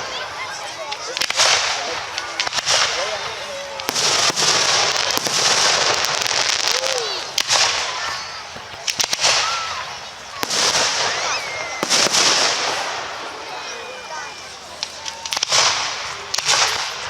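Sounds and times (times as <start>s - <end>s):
firework bangs: 0.0s - 17.0s
firework crackling hiss: 0.0s - 17.0s
spectators calling out: 0.0s - 17.0s.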